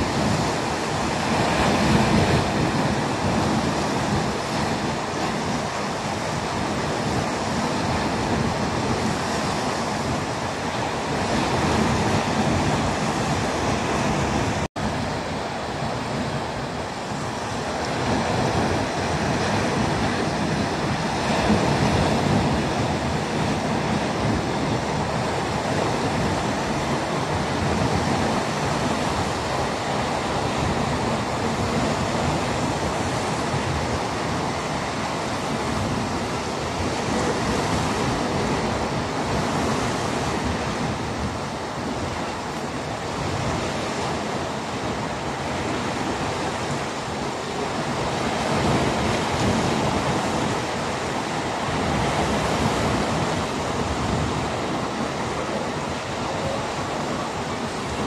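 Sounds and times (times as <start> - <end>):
sea rushing: 0.0 - 58.0
wind: 0.0 - 58.0
wind on microphone: 0.0 - 58.0.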